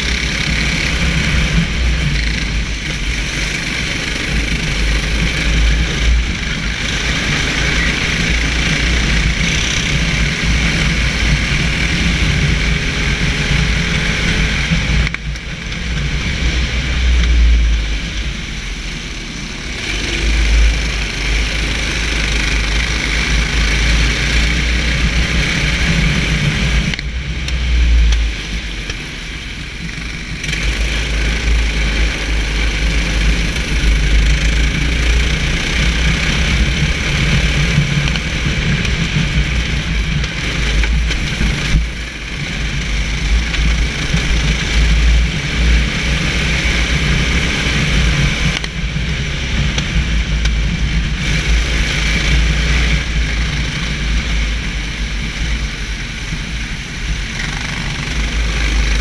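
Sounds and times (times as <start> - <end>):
racing kart engine running hard: 0.0 - 59.0.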